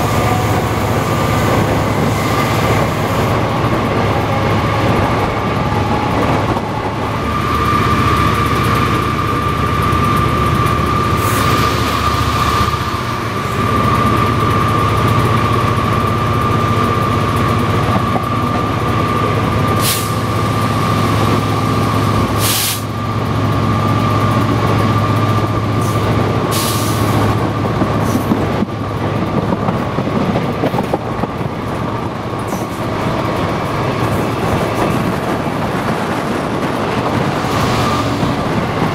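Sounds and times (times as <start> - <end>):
diesel locomotive engine hum: 0.0 - 38.9.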